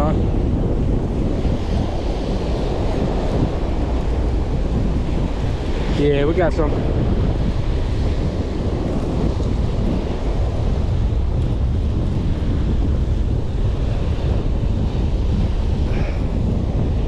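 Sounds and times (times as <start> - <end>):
ocean surf breaking: 0.0 - 17.0
strong wind on microphone: 0.0 - 17.0.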